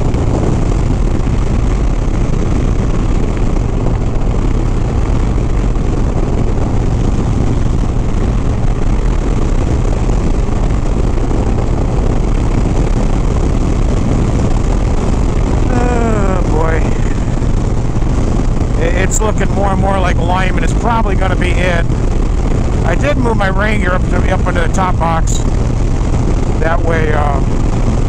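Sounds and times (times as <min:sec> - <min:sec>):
motorcycle engine drone: 0:00.0 - 0:28.0
wind and road noise: 0:00.0 - 0:28.0.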